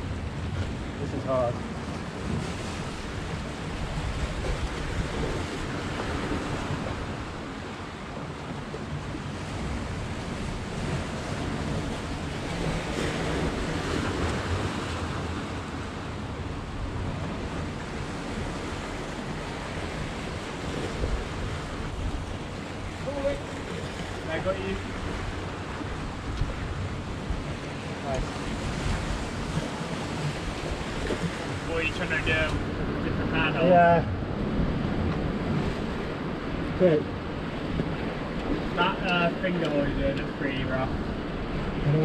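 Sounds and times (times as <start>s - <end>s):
surf washing over rocks: 0.0s - 42.0s
wind buffeting microphone: 0.0s - 42.0s.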